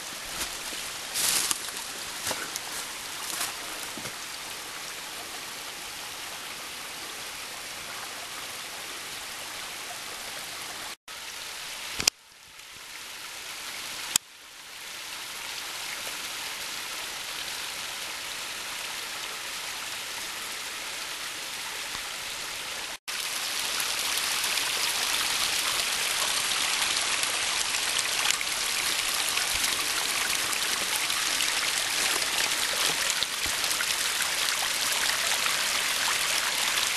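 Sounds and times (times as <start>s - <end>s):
waterfall splashing over rocks: 0.0s - 14.2s, 14.8s - 36.9s.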